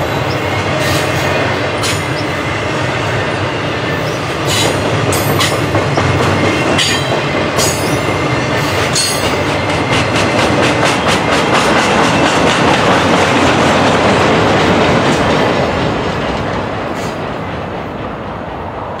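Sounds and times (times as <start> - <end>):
freight train wheels clacking: 0.0 - 19.0
train rumble: 0.0 - 19.0.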